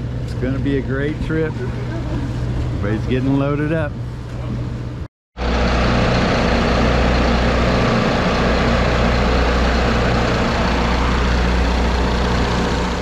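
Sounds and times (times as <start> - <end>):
diesel boat engine idling: 0.0 - 13.0.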